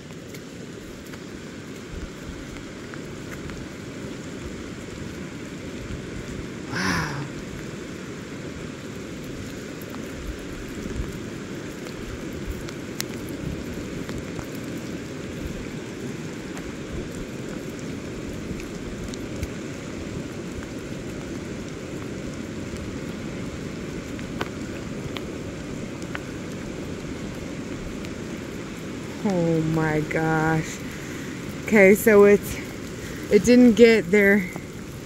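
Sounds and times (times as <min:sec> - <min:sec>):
rain falling: 0:00.0 - 0:35.0
river rushing: 0:00.0 - 0:35.0.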